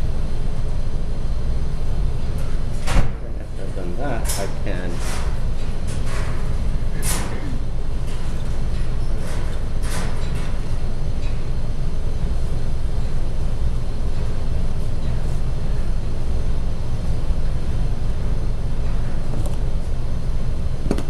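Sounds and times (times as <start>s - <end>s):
low room background rumble: 0.0s - 21.0s.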